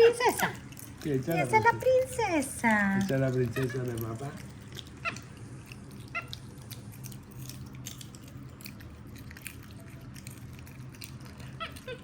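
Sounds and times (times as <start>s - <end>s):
low steady hum: 0.0s - 12.0s
monkeys chewing popcorn: 0.0s - 12.0s.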